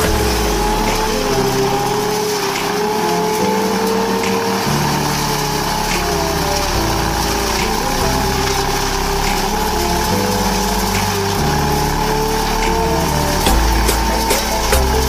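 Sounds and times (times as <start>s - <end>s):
background music: 0.0s - 15.0s
leaf vacuum engine running: 0.0s - 15.0s.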